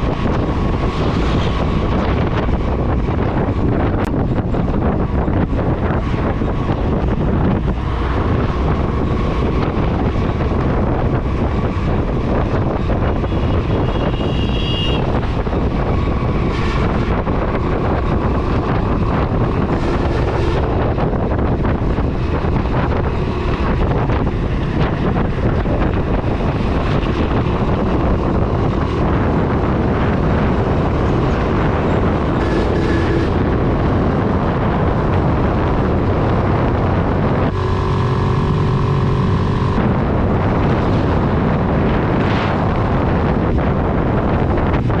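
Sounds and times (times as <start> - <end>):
motorcycle engine running: 0.0 - 45.0
wind buffeting microphone: 0.0 - 45.0.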